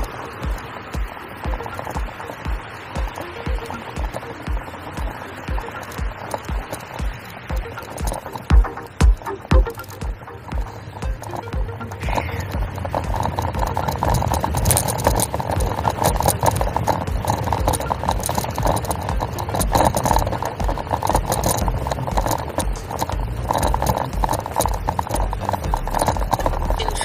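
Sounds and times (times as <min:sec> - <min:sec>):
bike rattling over asphalt: 0:00.0 - 0:27.0
wind rumbling on microphone: 0:00.0 - 0:27.0.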